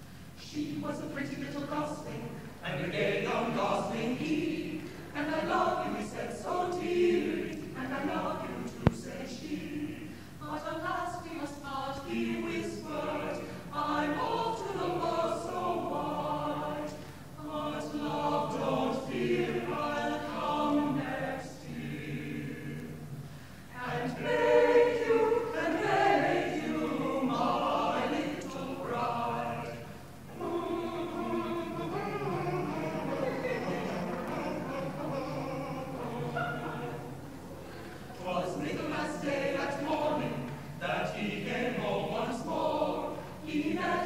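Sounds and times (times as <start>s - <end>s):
choir singing in harmony: 0.0s - 44.0s.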